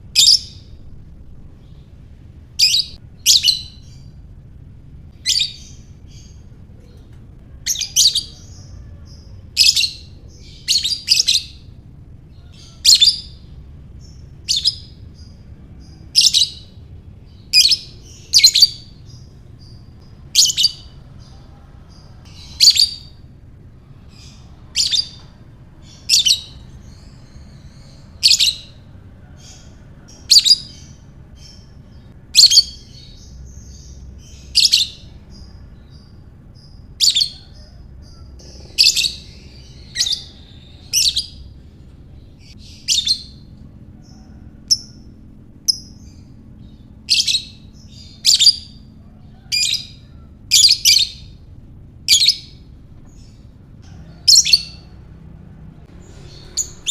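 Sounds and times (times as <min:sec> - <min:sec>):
faint low hum: 0:00.0 - 0:56.9.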